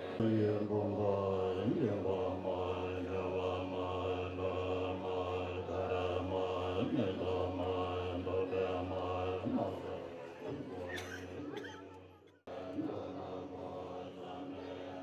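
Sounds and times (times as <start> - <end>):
monks chanting in unison: 0.0 - 11.7, 12.5 - 15.0.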